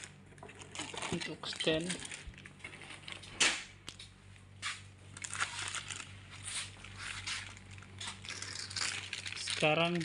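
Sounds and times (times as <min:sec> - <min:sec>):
plastic wrapping crinkling: 0:00.0 - 0:03.3, 0:03.9 - 0:10.0.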